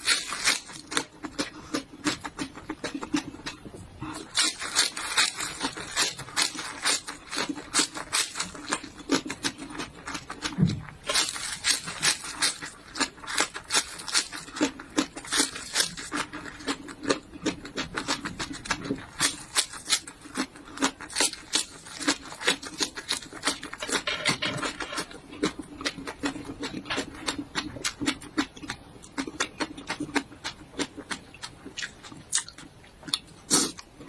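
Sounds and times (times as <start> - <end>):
chewing crunchy vegetables: 0.0 - 34.0.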